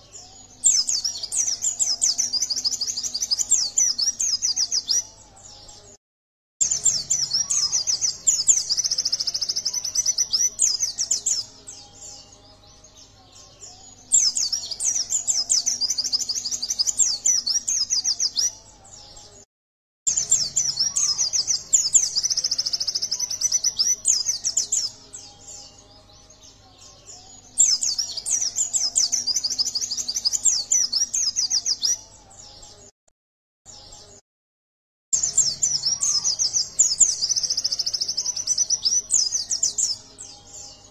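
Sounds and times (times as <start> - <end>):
bird twittering song: 0.0 - 6.0, 6.6 - 19.4, 20.1 - 32.9, 33.7 - 34.2, 35.2 - 40.9.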